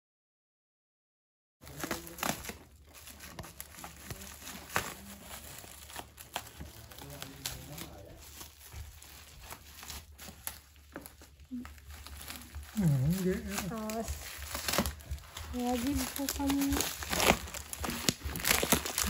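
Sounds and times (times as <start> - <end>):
bubble wrap crinkling: 1.6 - 19.0
scissors cutting plastic: 1.6 - 19.0.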